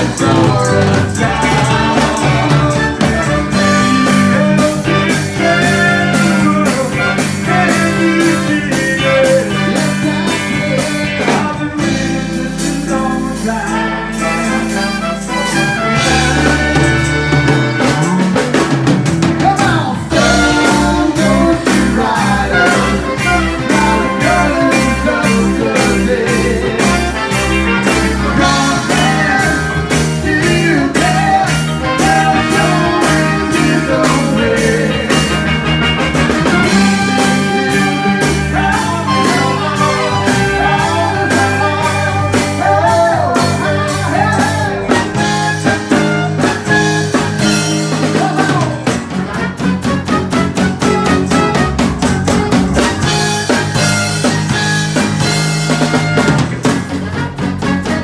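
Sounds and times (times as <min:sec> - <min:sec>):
trumpet: 0:00.0 - 0:18.8, 0:20.1 - 0:58.0
bass guitar: 0:00.0 - 0:58.0
drum kit beat: 0:00.0 - 0:58.0
electric guitar: 0:00.0 - 0:58.0.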